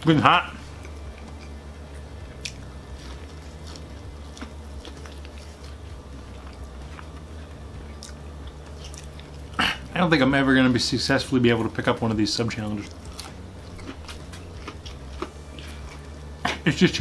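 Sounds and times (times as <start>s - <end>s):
steady low hum: 0.0s - 17.0s
person chewing crunchy food: 0.5s - 10.0s, 12.4s - 16.8s.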